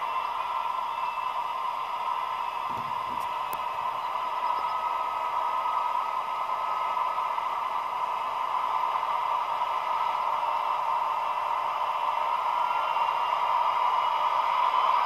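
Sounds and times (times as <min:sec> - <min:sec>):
diesel engine through small speaker: 0:00.0 - 0:15.0.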